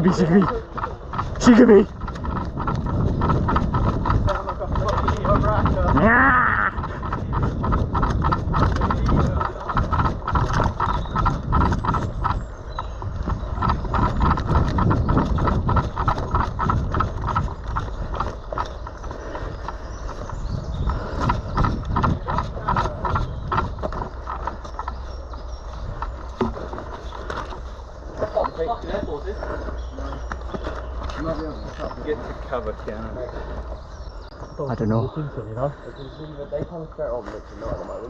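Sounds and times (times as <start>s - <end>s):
quick footsteps outdoors: 0.0s - 38.0s
wind rumbling on microphone: 0.0s - 38.0s.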